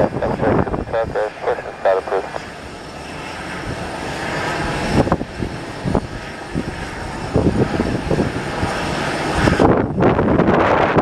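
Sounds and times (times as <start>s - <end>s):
wind buffeting microphone: 0.0s - 1.3s, 3.4s - 11.0s
jet engines running: 0.0s - 11.0s.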